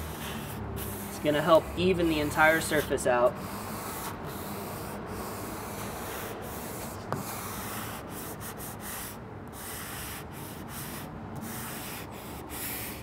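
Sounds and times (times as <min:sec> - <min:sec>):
sanding pad rasping on metal: 0:00.0 - 0:13.0.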